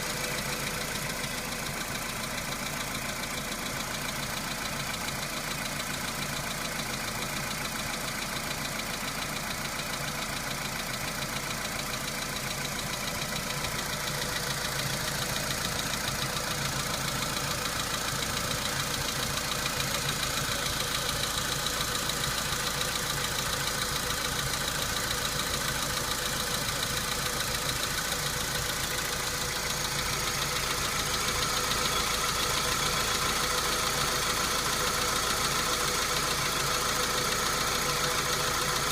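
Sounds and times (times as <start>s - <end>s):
car engine idling: 0.0s - 38.9s
rapid engine knock: 0.0s - 38.9s.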